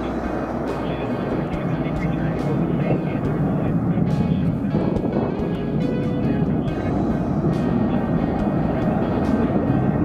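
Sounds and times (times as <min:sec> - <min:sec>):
background music: 0:00.0 - 0:10.0
jet engines rumbling: 0:00.0 - 0:10.0.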